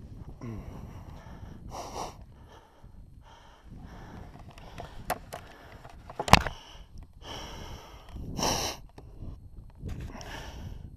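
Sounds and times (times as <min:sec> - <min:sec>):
person breathing hard: 0:00.1 - 0:09.4, 0:10.0 - 0:10.9.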